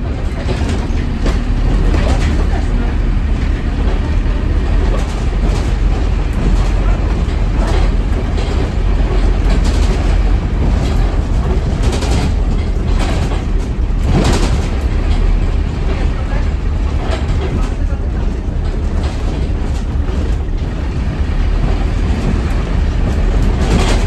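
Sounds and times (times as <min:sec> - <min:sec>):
bus engine and road rumble: 0:00.0 - 0:24.0
rattles and knocks: 0:00.0 - 0:24.0.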